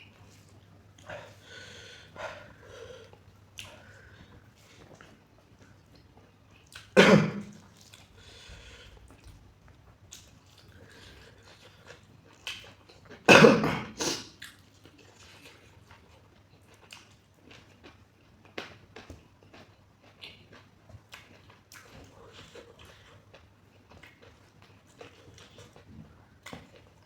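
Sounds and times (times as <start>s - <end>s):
person chewing food: 0.0s - 13.3s, 14.0s - 27.0s.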